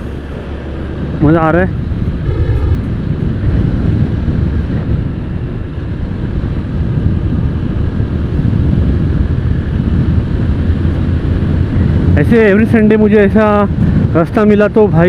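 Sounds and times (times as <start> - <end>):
motorcycle engine running: 0.0 - 14.6
wind rushing over microphone: 0.0 - 15.0.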